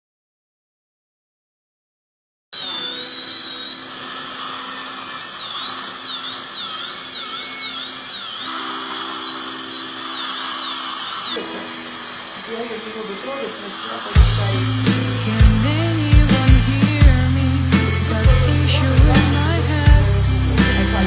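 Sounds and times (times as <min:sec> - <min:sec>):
dental drill whining: 0:02.6 - 0:21.0
steady low hum: 0:02.7 - 0:21.0.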